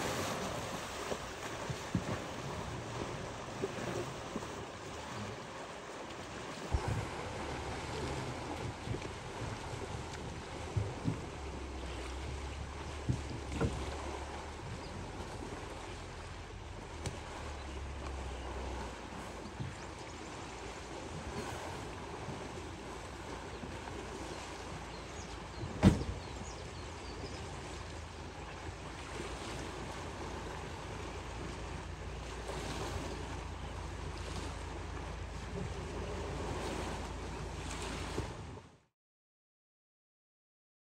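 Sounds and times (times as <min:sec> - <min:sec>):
wind rumble on microphone: 0:00.0 - 0:38.8
water sloshing and splashing: 0:00.0 - 0:38.9.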